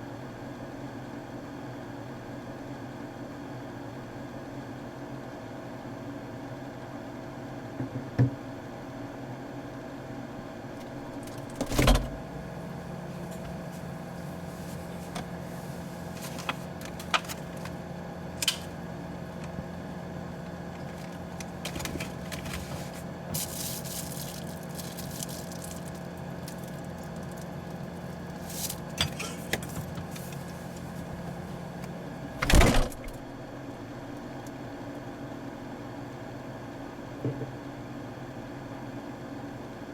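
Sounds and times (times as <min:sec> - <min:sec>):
refrigerator hum: 0:00.0 - 0:39.9.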